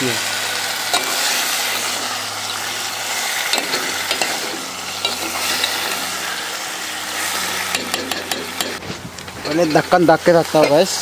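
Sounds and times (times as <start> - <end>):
fish sizzling in a pot: 0.0 - 11.0.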